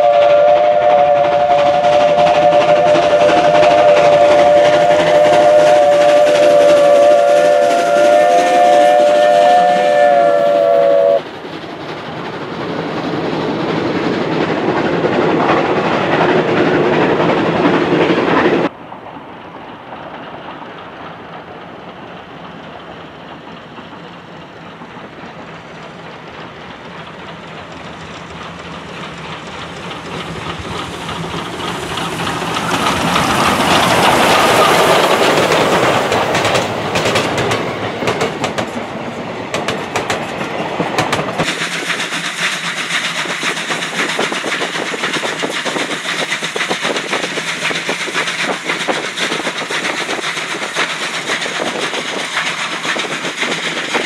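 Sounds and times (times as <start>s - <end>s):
train wheels clacking over rail joints: 0.0s - 54.0s.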